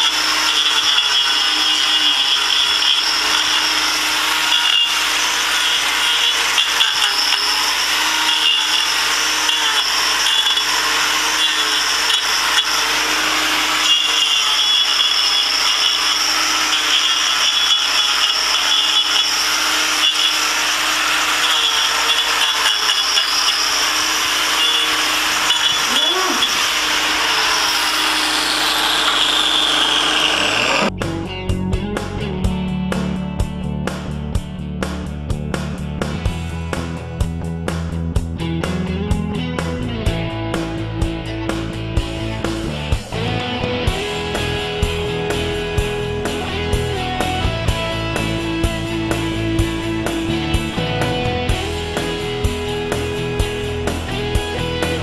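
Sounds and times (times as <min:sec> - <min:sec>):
power grinder running: 0:00.0 - 0:31.0, 0:41.5 - 0:55.0.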